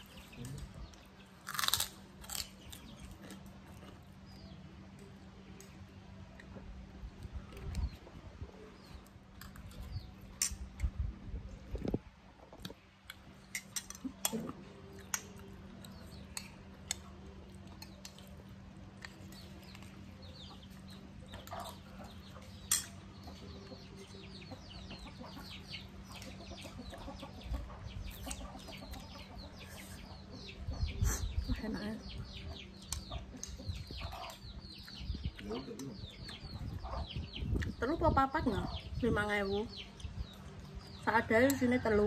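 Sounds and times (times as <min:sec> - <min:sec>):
chickens clucking: 0:05.9 - 0:42.0.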